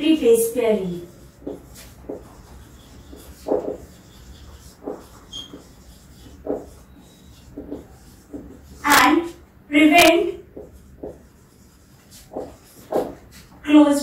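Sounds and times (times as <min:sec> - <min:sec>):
marker pen on whiteboard: 0:00.0 - 0:14.0.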